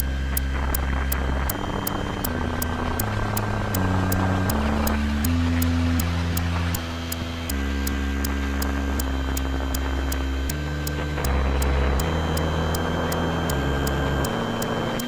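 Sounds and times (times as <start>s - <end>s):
high ticking clicks: 0.0s - 15.0s
low synthesizer bass drone: 0.0s - 15.0s.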